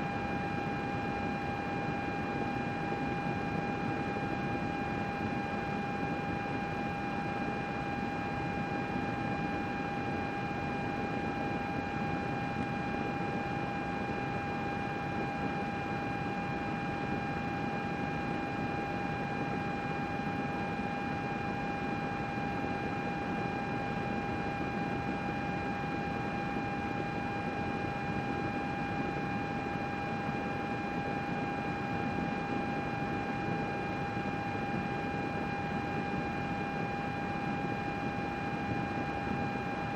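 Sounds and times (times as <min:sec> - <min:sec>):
computer cooling fans whirring: 0:00.0 - 0:39.9.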